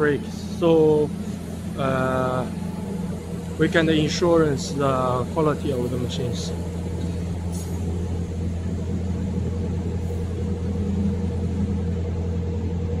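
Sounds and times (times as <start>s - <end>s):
factory machinery hum: 0.0s - 13.0s
faint steady tones: 0.0s - 13.0s.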